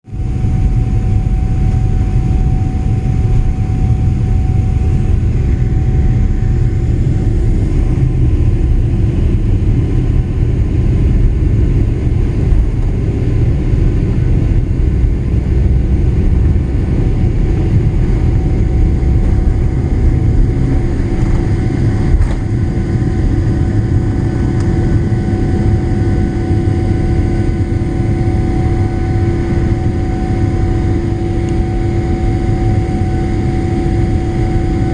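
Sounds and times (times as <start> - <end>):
jet engine whine: 0.1 - 34.9
jet engines rumbling on takeoff: 0.1 - 34.9.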